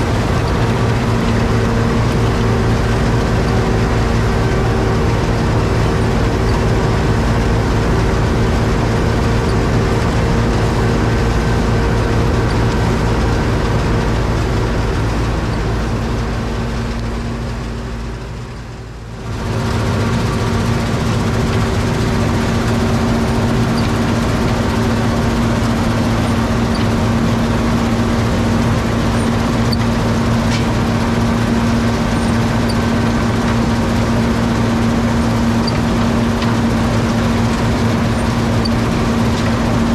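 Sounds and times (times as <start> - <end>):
threshing machinery: 0.0 - 17.8, 19.2 - 39.9
combine harvester engine running: 0.0 - 39.9.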